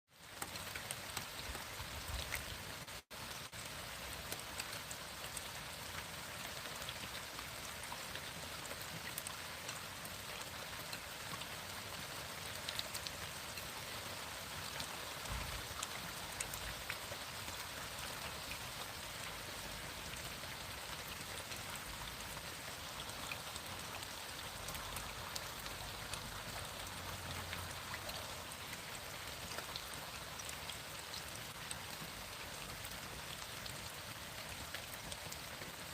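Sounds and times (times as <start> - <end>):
steady rain falling: 0.1 - 35.9.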